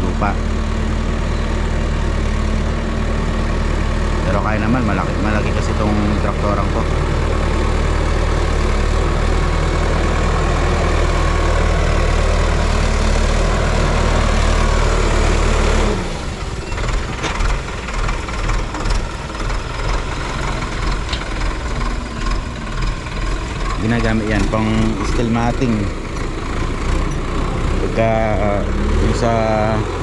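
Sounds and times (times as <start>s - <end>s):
diesel tractor engine under load: 0.0s - 30.0s.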